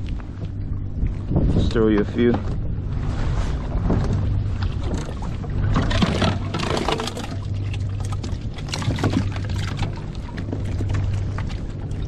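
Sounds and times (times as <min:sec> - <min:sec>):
water splashing against kayak: 0:00.0 - 0:12.0.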